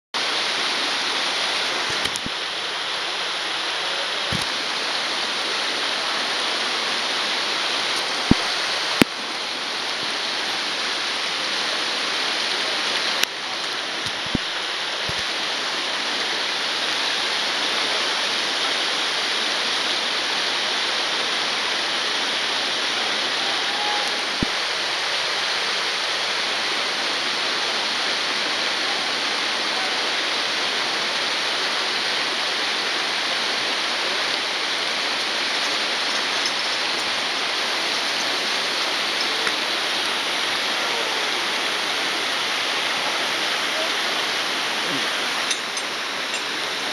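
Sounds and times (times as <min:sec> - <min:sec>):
waterfall rushing: 0:00.2 - 0:46.9.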